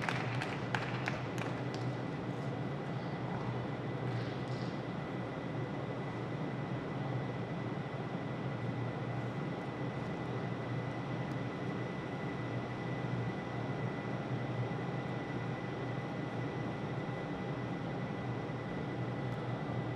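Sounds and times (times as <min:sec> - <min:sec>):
sports hall background hum: 0:00.0 - 0:19.9.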